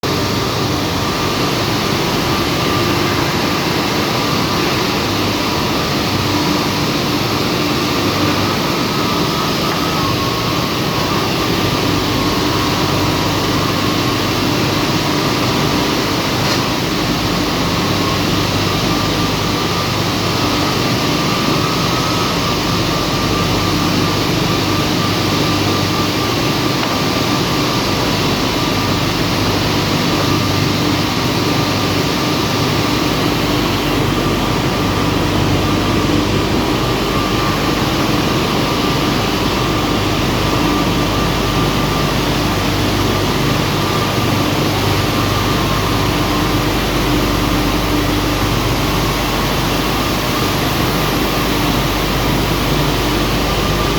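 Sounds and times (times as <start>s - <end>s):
constant machine hum: 0.0s - 53.9s.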